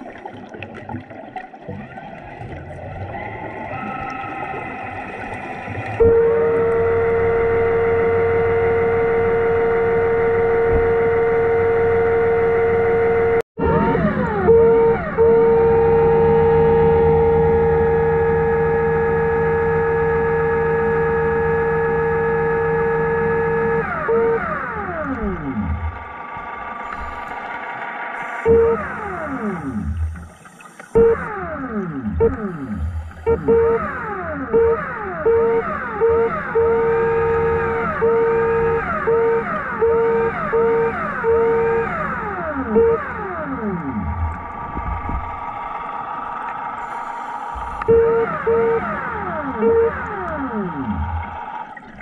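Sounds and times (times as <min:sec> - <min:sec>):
electric motor whining underwater: 0:00.0 - 0:52.0
steady tone cutting in and out: 0:02.8 - 0:52.0.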